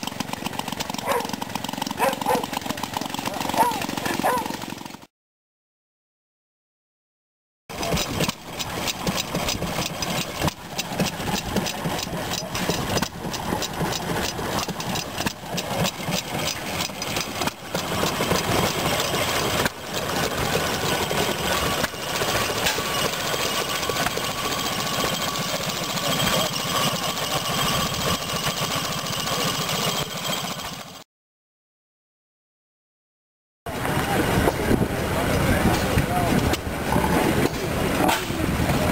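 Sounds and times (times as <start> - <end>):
stationary gas engines knocking: 0.0 - 5.1, 7.7 - 31.0, 33.7 - 38.9.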